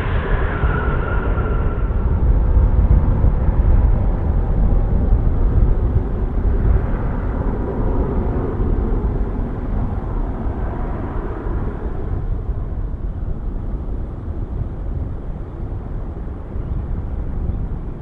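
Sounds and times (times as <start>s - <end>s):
jet engines in reverse thrust: 0.0s - 18.0s.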